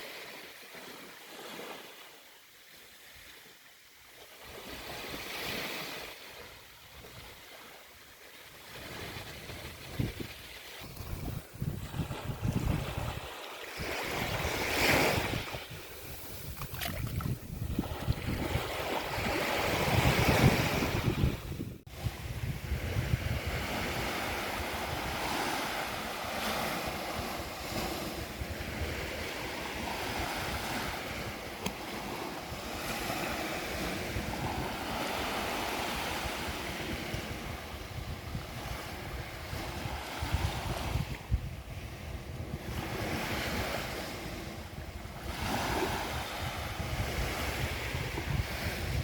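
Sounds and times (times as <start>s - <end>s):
sea waves breaking: 4.4s - 49.0s
wind buffeting microphone: 8.7s - 49.0s.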